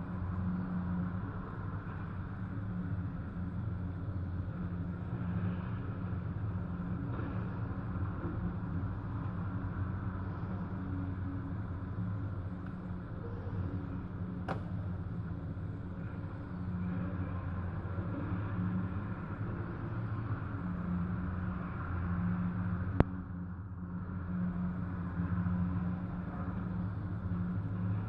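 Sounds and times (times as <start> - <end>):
city traffic passing: 0.0 - 28.0.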